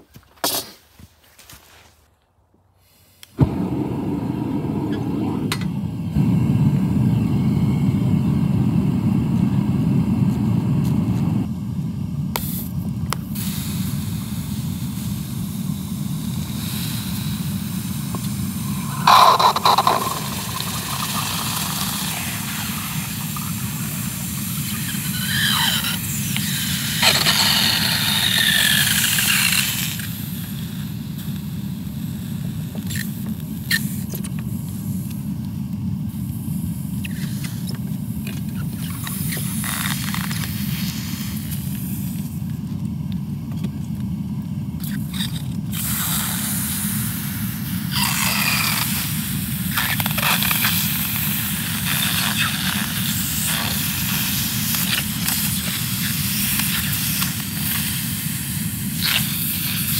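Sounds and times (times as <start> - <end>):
furnace burner rushing: 3.2 - 59.9.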